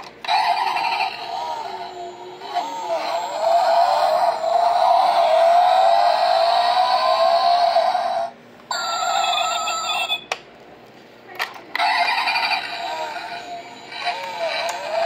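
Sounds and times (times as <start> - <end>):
toy car engine sound effects: 0.2 - 10.2, 11.7 - 15.0.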